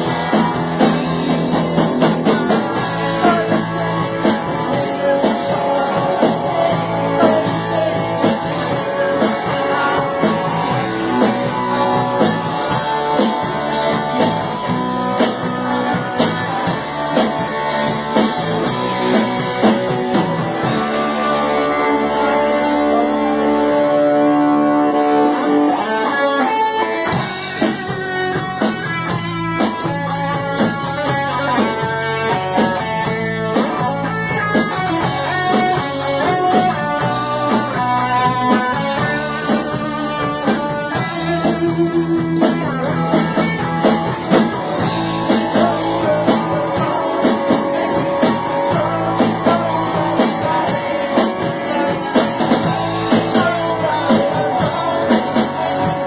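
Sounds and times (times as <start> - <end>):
drums steady beat: 0.0 - 22.4, 27.1 - 56.0
bass guitar: 0.0 - 56.0
electric guitar: 0.0 - 56.0.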